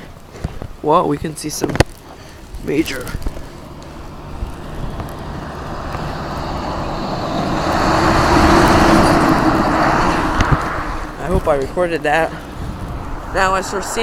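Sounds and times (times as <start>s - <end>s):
vehicle passing on wet road: 2.3s - 14.0s.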